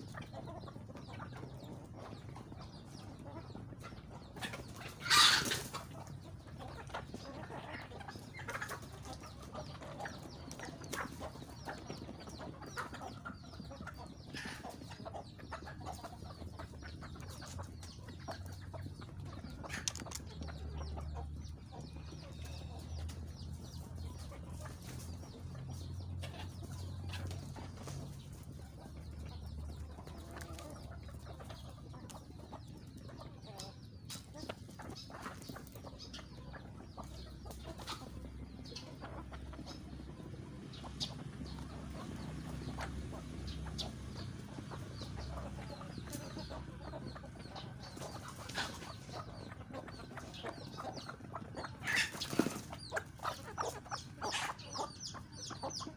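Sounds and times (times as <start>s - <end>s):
chickens clucking: 0.0s - 55.9s.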